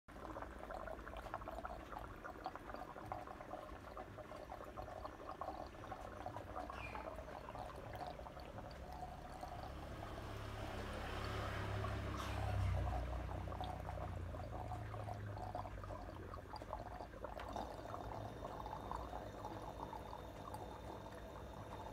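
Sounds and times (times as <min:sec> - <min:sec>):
water bubbling and trickling: 0:00.1 - 0:21.9.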